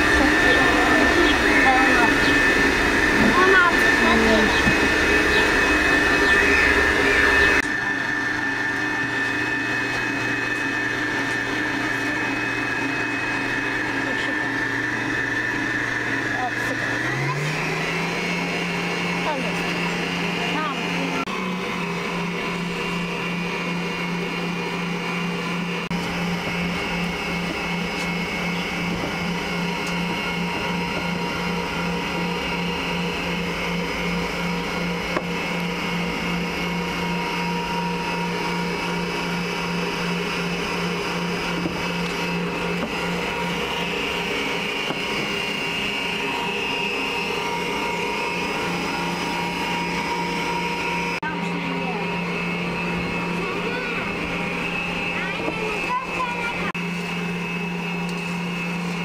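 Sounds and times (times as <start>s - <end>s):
stand mixer motor humming: 0.0s - 59.0s.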